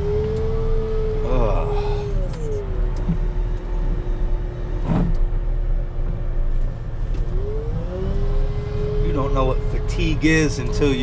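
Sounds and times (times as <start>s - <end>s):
diesel engine running with whine: 0.0s - 11.0s.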